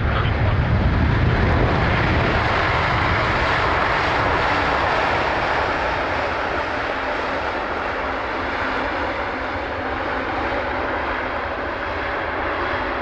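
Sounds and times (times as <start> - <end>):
jet airliner passing close: 0.0 - 13.0.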